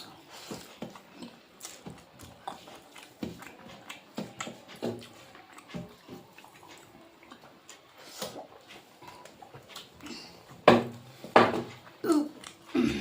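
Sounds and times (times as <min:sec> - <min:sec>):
chewing and eating sounds: 0:00.0 - 0:13.0.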